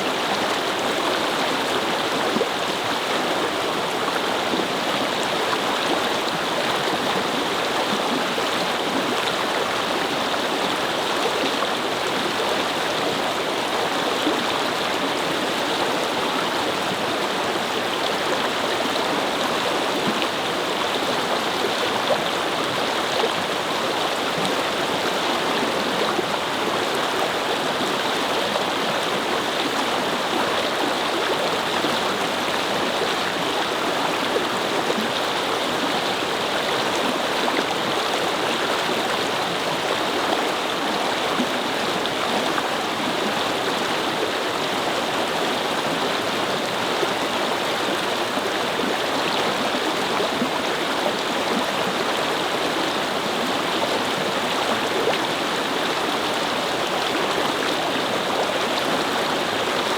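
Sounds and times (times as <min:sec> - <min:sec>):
brook flowing over stones: 0:00.0 - 0:59.9.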